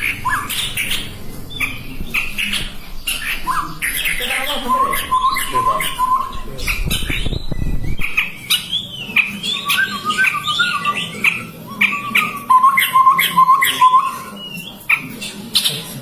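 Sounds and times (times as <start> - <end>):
birds calling and chattering: 0.0 - 16.0.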